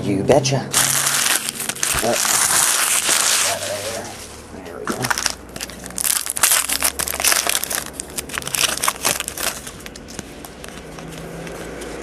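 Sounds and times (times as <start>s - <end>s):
foil wrapper crinkling: 0.8s - 12.0s.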